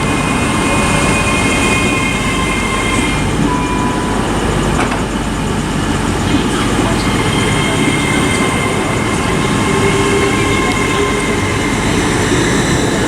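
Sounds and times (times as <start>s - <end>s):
high whine tones: 0.0s - 13.0s
train wheels rumbling: 0.0s - 13.0s.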